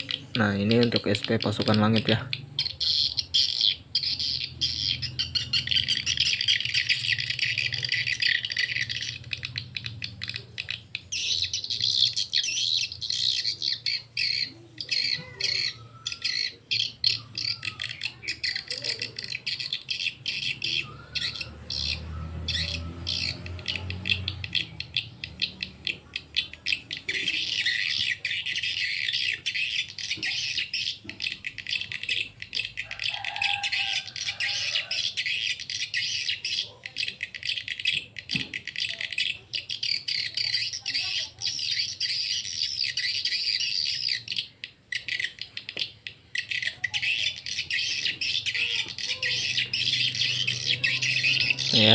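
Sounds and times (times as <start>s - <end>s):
recorded swiftlet chirps through tweeters: 0.0s - 51.9s.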